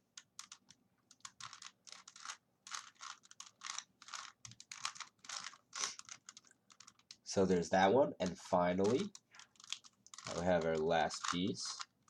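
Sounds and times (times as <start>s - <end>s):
puzzle cube plastic clicks: 0.1s - 7.3s, 8.7s - 12.0s.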